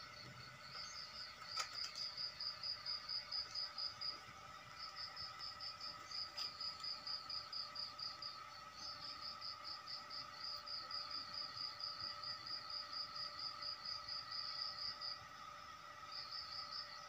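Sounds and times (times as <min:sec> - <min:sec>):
faint steady hum: 0:00.0 - 0:17.0
insect pulsing trill: 0:00.0 - 0:17.0.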